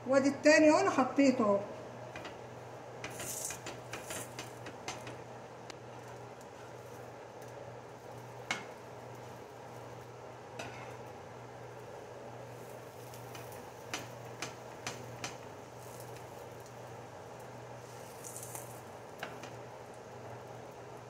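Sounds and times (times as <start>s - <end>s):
tortillas sizzling in a pan: 2.2s - 21.0s.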